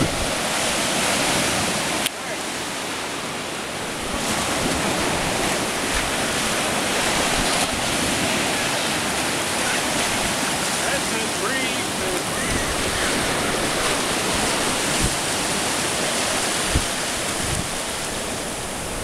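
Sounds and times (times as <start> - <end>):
waves washing over sand: 0.0 - 19.0.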